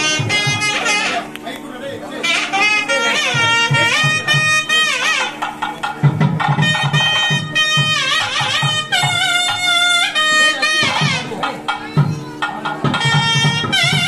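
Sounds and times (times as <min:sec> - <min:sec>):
thavil drum beating: 0:00.0 - 0:01.4, 0:02.2 - 0:14.0
nadaswaram melody: 0:00.0 - 0:14.0.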